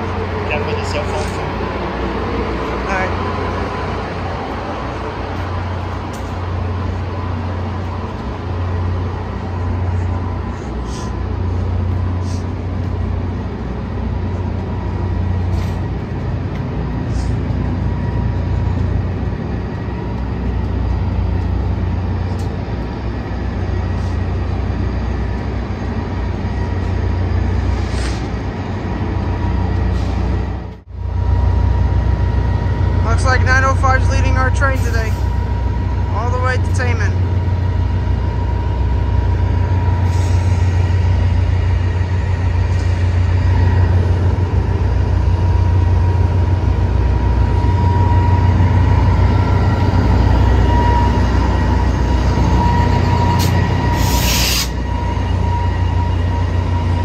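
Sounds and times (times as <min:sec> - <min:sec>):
diesel locomotive engines idling: 0:00.0 - 0:57.0.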